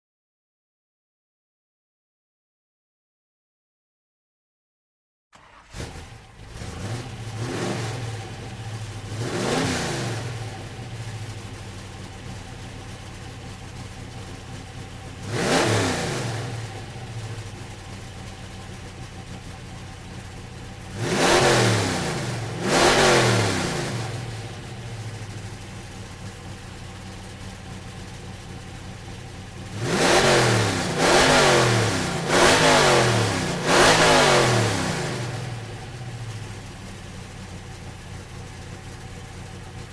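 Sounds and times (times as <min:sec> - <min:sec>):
car engine revving: 0:05.4 - 0:39.9.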